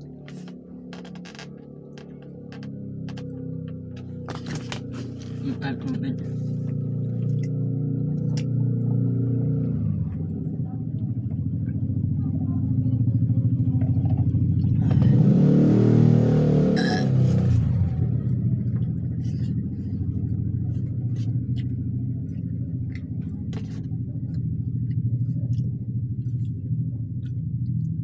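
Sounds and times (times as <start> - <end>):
low motor hum: 0.0 - 28.0.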